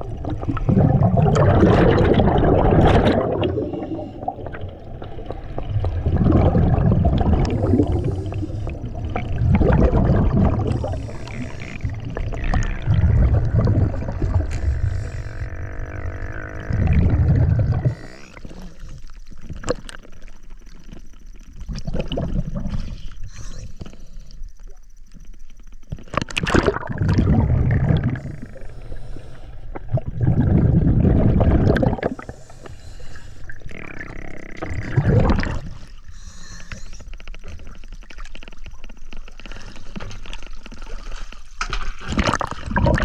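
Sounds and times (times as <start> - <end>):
underwater exhaled bubbles: 0.0 - 24.9, 25.8 - 43.0.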